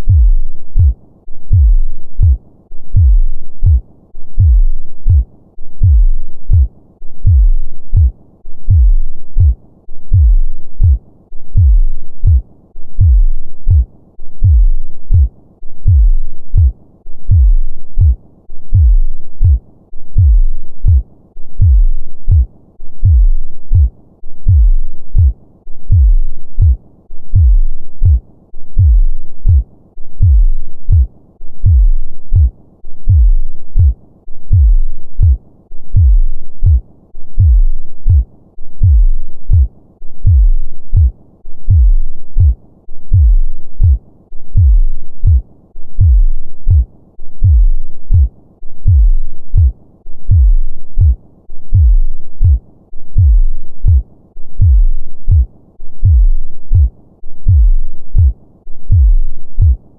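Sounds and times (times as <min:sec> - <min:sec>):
heartbeat thuds: 0:00.0 - 0:03.8, 0:04.4 - 0:12.4, 0:13.0 - 0:21.0, 0:21.6 - 0:45.4, 0:46.0 - 0:54.0, 0:54.6 - 0:59.8.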